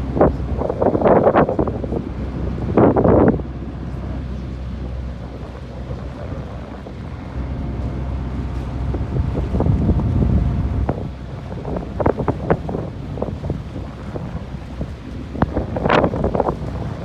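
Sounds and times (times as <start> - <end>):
low steady rumble: 0.0 - 17.0
water slapping against hull: 0.0 - 17.0
wind buffeting microphone: 0.0 - 17.0.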